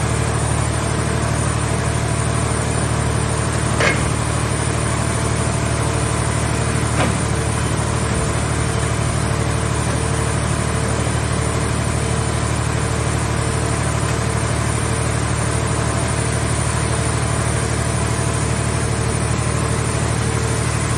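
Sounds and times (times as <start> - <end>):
hydraulic power unit hum: 0.0 - 20.9.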